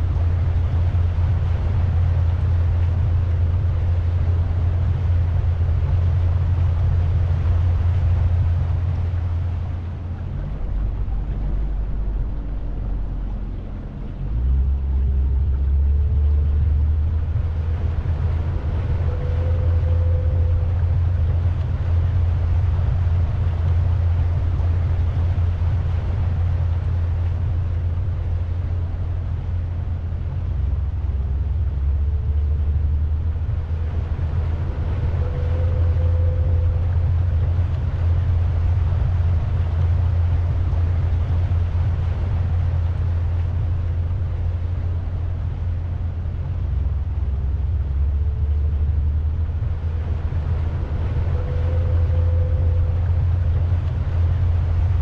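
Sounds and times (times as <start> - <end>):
boat motor rumbling: 0.0 - 55.0.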